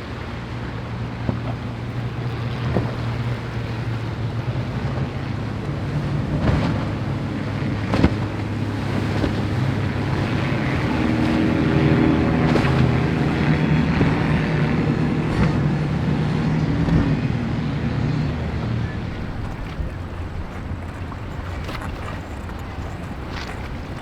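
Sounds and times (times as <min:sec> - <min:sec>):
powerboat engines running: 0:00.0 - 0:24.0
waves washing: 0:00.0 - 0:24.0
wind on microphone: 0:00.0 - 0:24.0.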